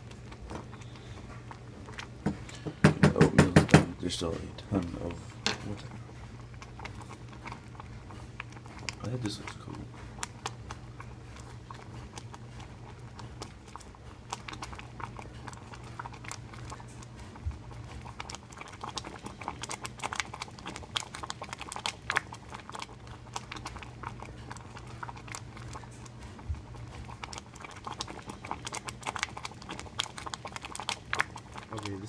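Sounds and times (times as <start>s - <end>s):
oatmeal bubbling and popping: 0.0s - 32.0s
steady low hum: 0.0s - 32.0s.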